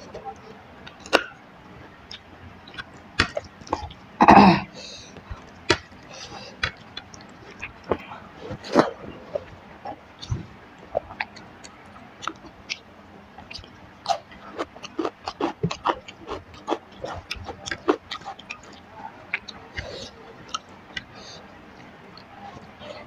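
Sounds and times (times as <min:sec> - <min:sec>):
person chewing food: 0:02.0 - 0:23.0.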